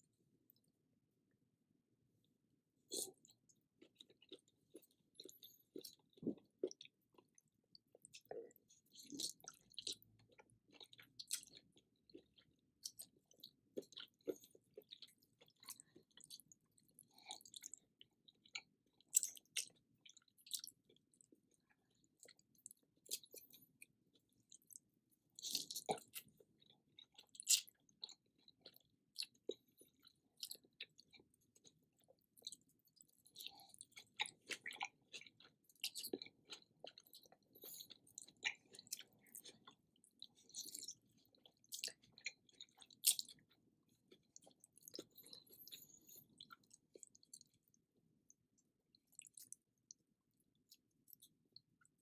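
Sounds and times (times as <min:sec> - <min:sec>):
person chewing food: 0:02.9 - 0:52.0.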